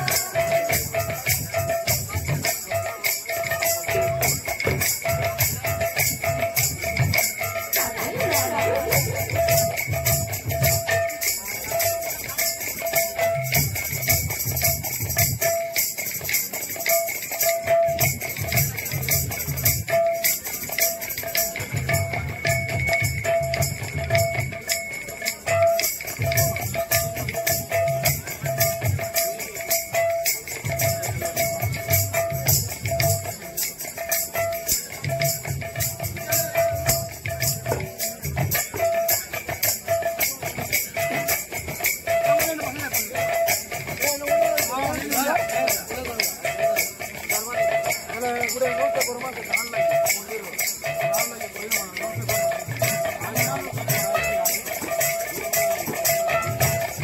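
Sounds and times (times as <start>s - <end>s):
hand drum beating: 0.0s - 57.0s
jingling cymbals: 0.0s - 57.0s.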